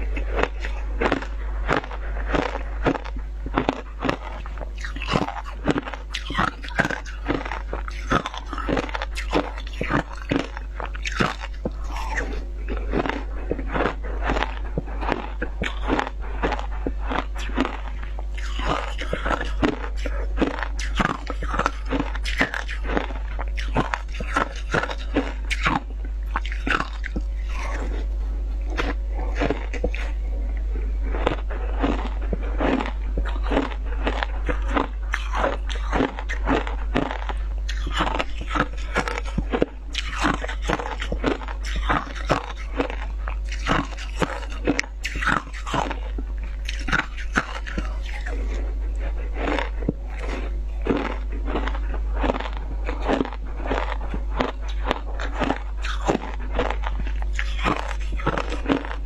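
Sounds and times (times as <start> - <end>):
crunching and chewing ice: 0.0 - 59.0
steady low hum: 0.0 - 59.0.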